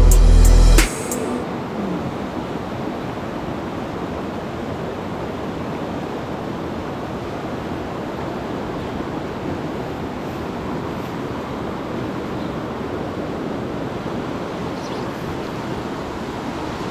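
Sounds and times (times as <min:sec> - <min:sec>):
water rushing over rocks: 0:00.8 - 0:16.9.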